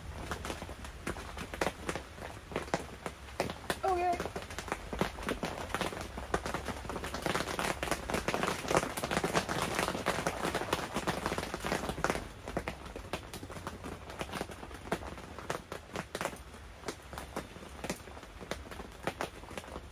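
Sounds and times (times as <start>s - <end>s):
rain pattering on a tent: 0.0s - 19.9s.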